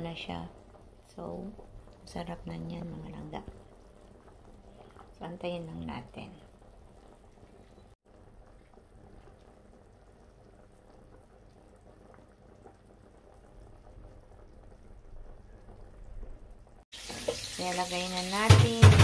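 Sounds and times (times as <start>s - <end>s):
broth boiling with bubbling: 0.0s - 19.0s.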